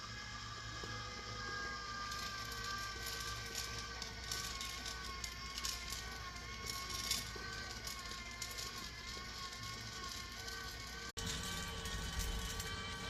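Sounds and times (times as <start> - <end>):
coffee roaster humming: 0.0 - 13.0.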